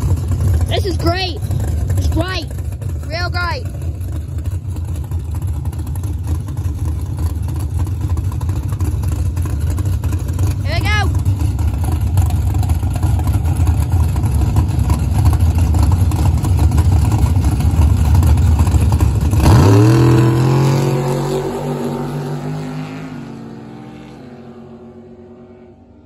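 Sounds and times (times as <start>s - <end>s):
drag-race car engines revving: 0.0s - 26.0s.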